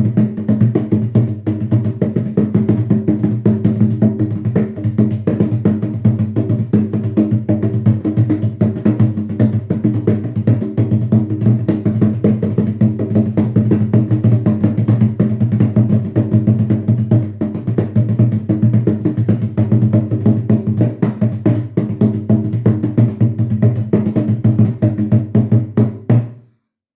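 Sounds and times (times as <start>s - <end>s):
hand drum fast rhythm: 0.0s - 26.4s.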